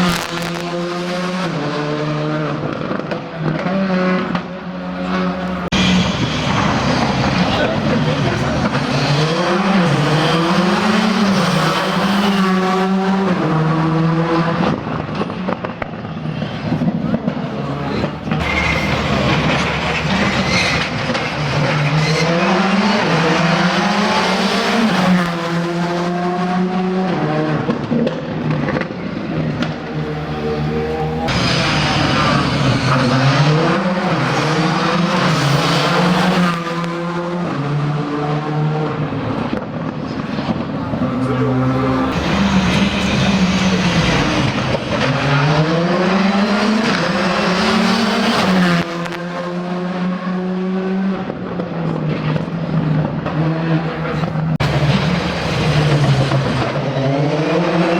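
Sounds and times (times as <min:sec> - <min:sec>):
rally car engine at high revs: 0:00.0 - 0:57.9.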